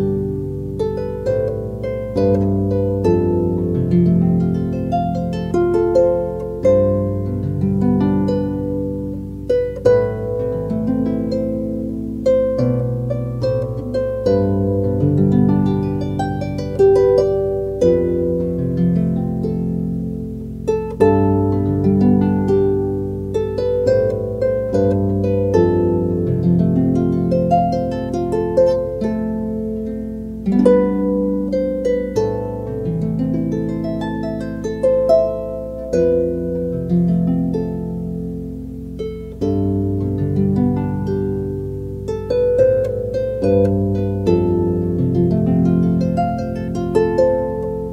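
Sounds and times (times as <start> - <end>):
harp music: 0.0 - 47.9.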